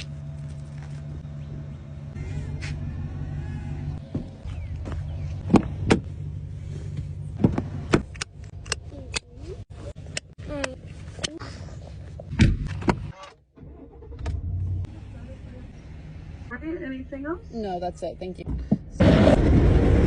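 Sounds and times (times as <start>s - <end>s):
car engine and road hum: 0.0s - 20.0s.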